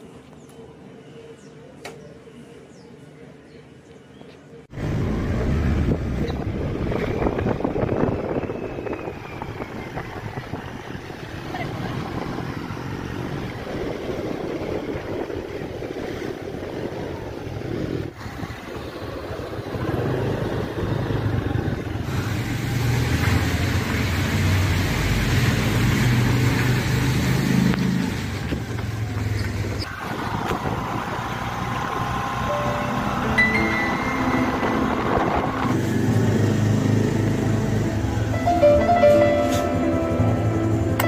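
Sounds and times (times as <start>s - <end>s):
scooter engine hum: 4.4s - 41.0s.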